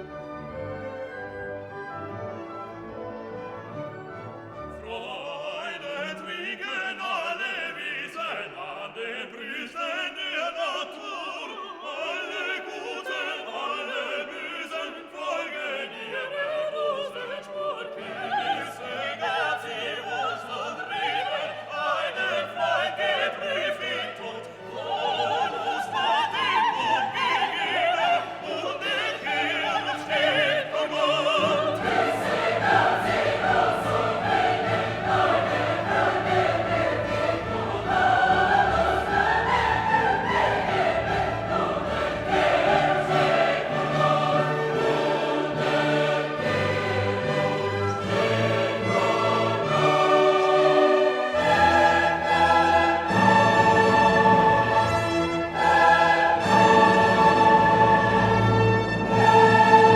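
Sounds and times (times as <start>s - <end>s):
choir singing: 0.0s - 59.9s
orchestra: 0.0s - 59.9s.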